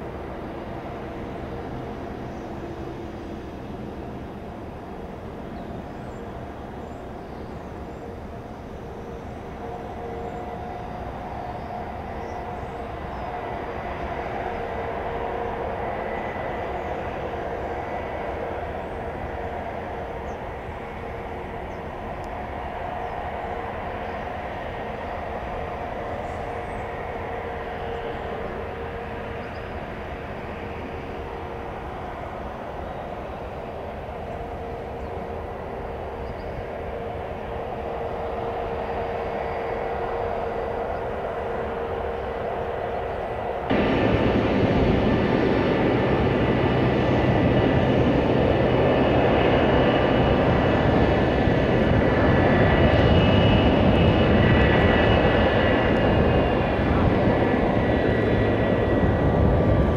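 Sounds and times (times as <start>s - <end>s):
jet engines rumbling with whine: 0.0s - 59.9s.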